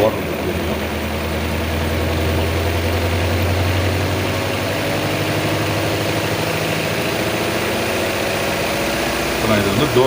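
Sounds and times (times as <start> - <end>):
spin dryer motor hum: 0.0 - 10.0.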